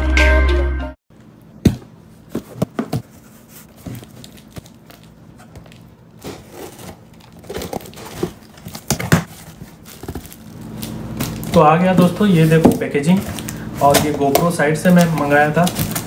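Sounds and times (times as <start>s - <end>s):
packaging crinkling: 3.1s - 16.0s.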